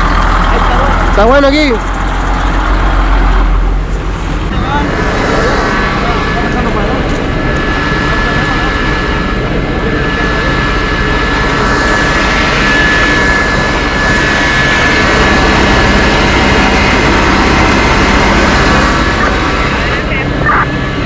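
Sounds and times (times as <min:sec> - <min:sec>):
engine running at high speed: 0:00.0 - 0:21.0
high-pitched whine: 0:00.0 - 0:21.0.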